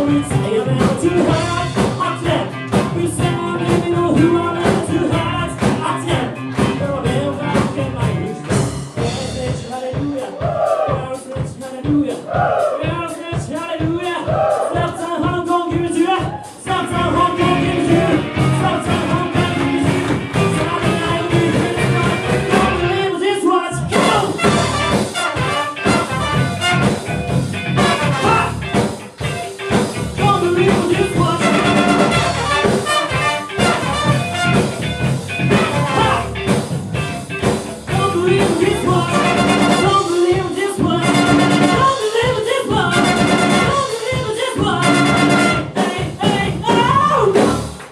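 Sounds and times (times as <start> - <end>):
steady drum beat: 0.0 - 23.1, 23.9 - 47.9
person singing: 0.0 - 24.4, 27.8 - 28.7, 30.2 - 34.3, 35.4 - 36.5, 37.9 - 47.6
live band playing: 0.0 - 47.9.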